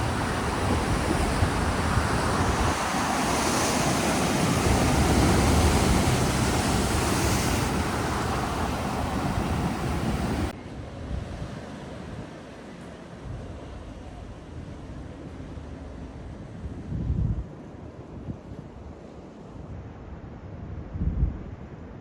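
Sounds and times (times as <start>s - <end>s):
steady rushing outdoor noise: 0.0s - 22.0s.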